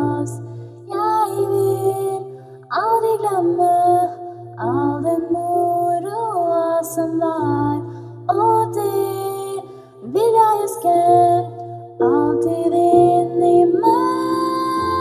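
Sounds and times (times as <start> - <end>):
person singing slow song: 0.0 - 15.0.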